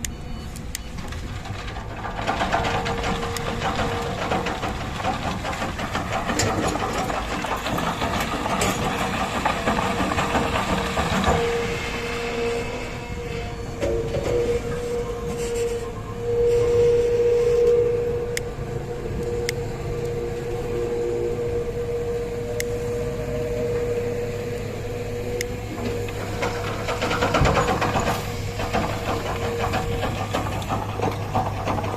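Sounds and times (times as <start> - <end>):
diesel machinery clattering: 0.0 - 31.9
steady whine: 0.0 - 31.9.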